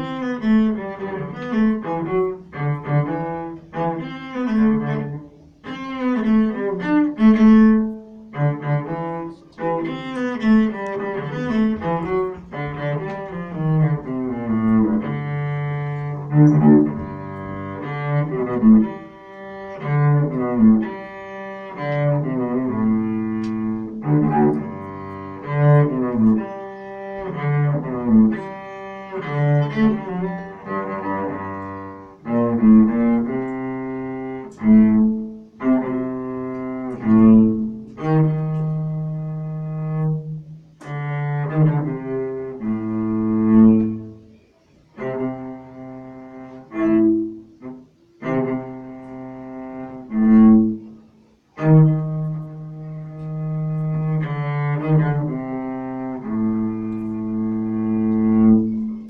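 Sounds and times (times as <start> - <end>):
bowed cello melody: 0.0 - 59.0.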